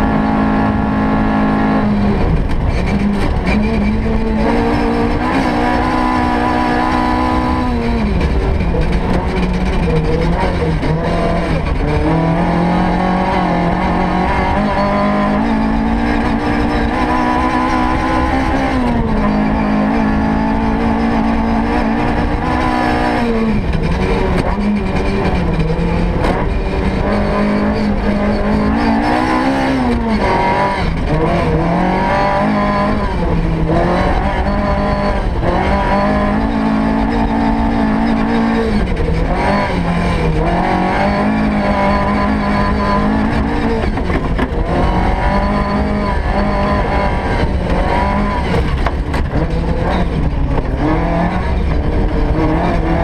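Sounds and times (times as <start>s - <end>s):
rally car engine revving: 0.0s - 53.0s
tyres rumbling on dirt road: 0.0s - 53.0s.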